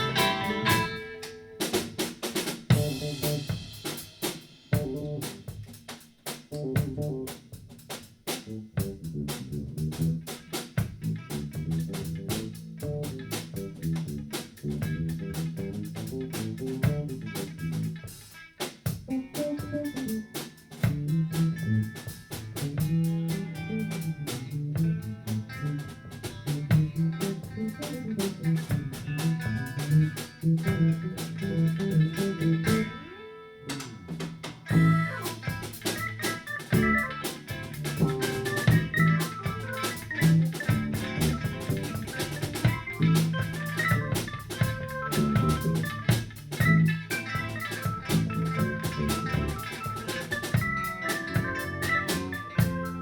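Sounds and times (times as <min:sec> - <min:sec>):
busy bass line: 0:00.0 - 0:01.2, 0:02.7 - 0:03.8, 0:04.8 - 0:05.6, 0:06.5 - 0:07.4, 0:08.3 - 0:18.1, 0:19.1 - 0:33.0, 0:34.7 - 0:53.0
guitar: 0:00.0 - 0:03.8, 0:10.4 - 0:53.0
drum kit: 0:00.0 - 0:33.1, 0:33.7 - 0:53.0.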